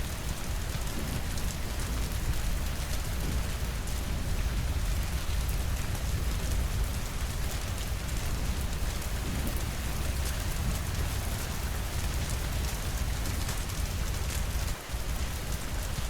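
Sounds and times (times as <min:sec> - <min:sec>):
rain on a surface: 0:00.0 - 0:16.0.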